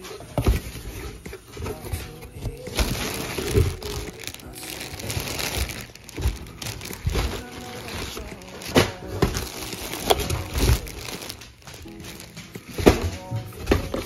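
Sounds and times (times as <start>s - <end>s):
cardboard scraping: 0.0s - 14.0s
plastic bag crinkling: 0.0s - 14.0s.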